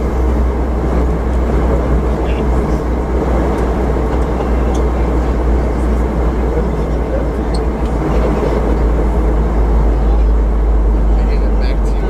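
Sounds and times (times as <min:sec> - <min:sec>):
airplane cabin noise: 0:00.0 - 0:12.0
deep constant rumble: 0:00.0 - 0:12.0.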